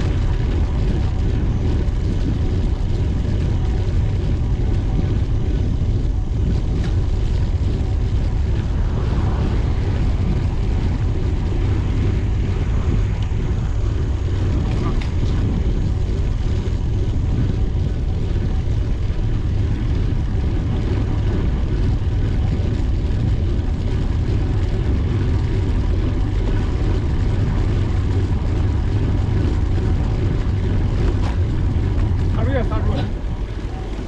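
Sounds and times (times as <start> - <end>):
wind rushing on microphone: 0.0 - 34.0.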